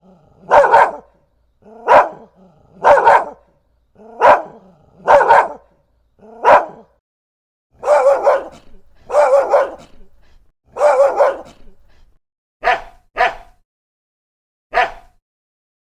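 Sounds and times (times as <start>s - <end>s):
dog barking: 0.0s - 7.0s, 7.8s - 13.6s, 14.7s - 15.2s.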